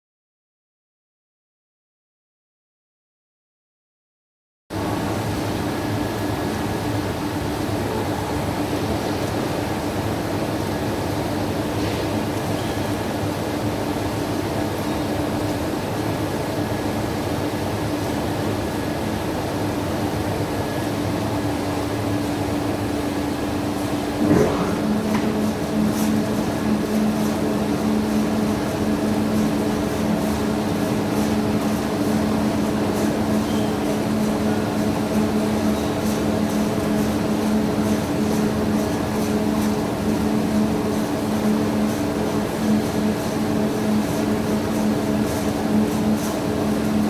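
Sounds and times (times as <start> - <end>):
industrial machinery humming: 4.8 - 47.0.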